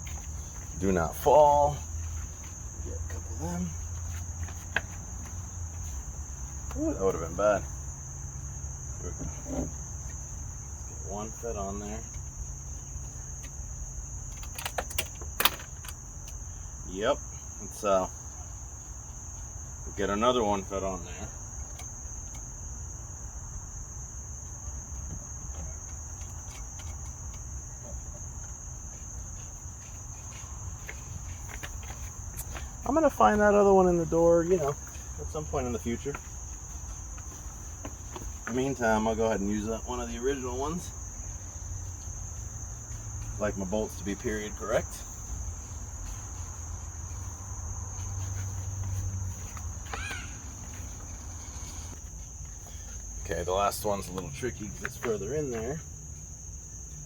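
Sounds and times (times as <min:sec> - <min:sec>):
crickets chirping: 0:00.0 - 0:57.0
high-pitched insect trill: 0:00.0 - 0:57.0.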